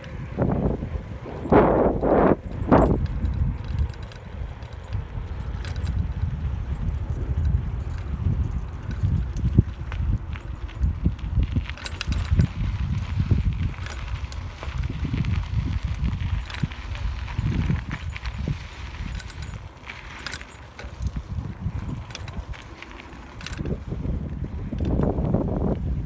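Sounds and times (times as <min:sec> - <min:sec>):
bicycle clicks and rattles: 0:00.0 - 0:26.0
wind buffeting microphone: 0:00.0 - 0:26.0.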